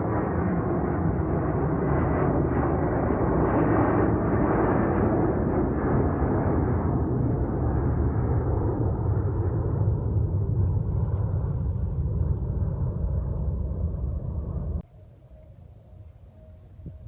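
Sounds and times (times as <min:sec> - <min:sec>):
jet airliner taking off overhead: 0:00.0 - 0:14.9.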